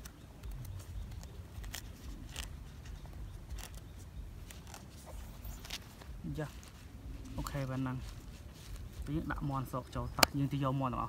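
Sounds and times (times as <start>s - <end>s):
sharp crackles: 0.0s - 10.5s
leaf rustling and crinkling: 0.0s - 11.0s.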